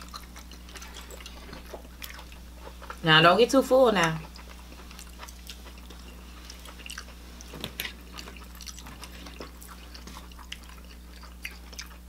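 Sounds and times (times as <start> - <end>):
low steady hum: 0.0 - 12.0
wet chewing: 0.0 - 12.0.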